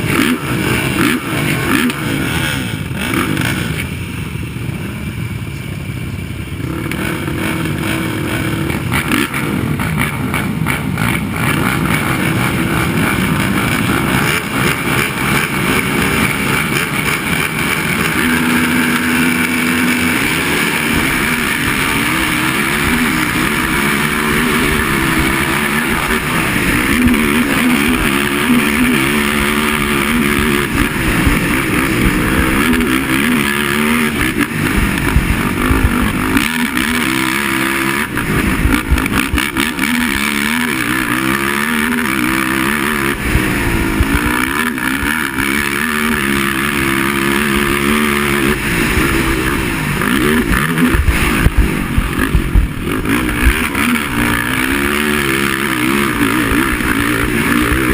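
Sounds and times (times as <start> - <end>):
quad engines revving: 0.0 - 57.9.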